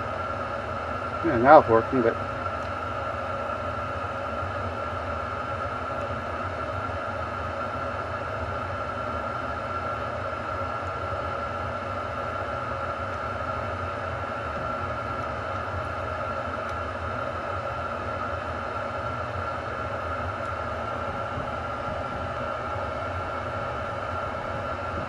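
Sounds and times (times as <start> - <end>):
mechanical hum with high whine: 0.0 - 25.0.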